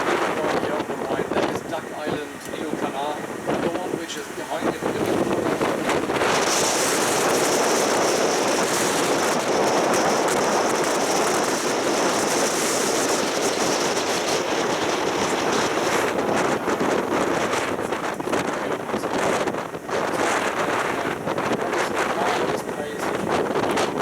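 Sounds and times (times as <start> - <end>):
road train rushing along: 0.0 - 23.5
wind: 0.0 - 24.0.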